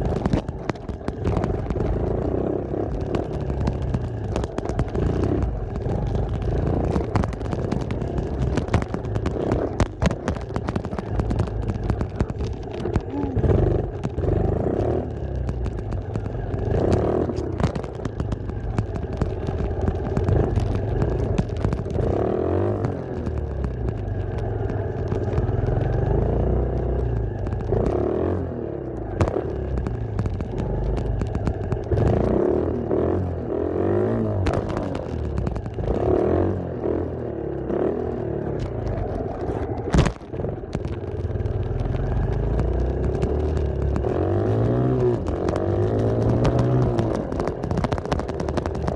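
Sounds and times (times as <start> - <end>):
low rumble: 0.0 - 48.9.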